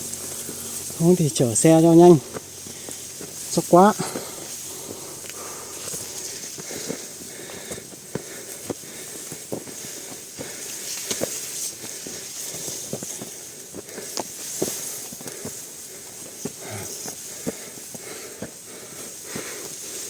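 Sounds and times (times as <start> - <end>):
footsteps on dirt: 0.0 - 20.0
steady high hiss: 0.0 - 20.0.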